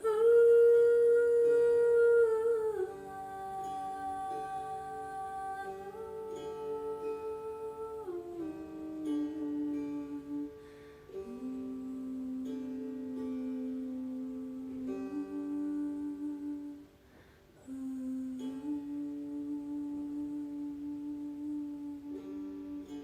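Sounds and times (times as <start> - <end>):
person humming long notes: 0.0 - 16.9, 17.6 - 23.0
plucked string notes: 0.0 - 23.0.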